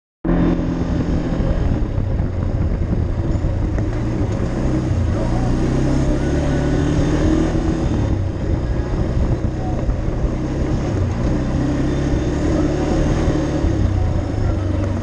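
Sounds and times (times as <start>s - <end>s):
atv engine running: 0.2s - 15.0s.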